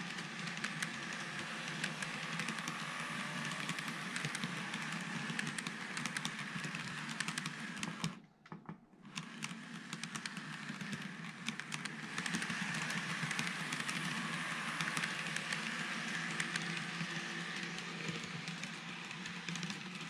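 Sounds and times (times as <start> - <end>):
model train motor whir: 0.0 - 8.2, 9.0 - 20.0
wheels clicking on rails: 0.0 - 8.2, 9.1 - 20.0.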